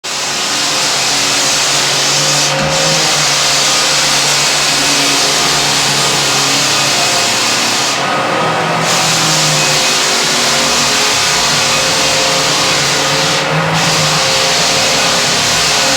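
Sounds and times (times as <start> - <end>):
floor sander with vacuum humming: 0.0 - 15.9.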